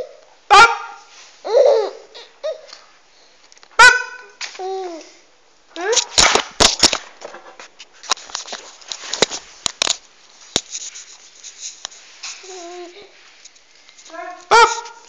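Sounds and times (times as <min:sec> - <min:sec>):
rustling: 0:02.6 - 0:15.0.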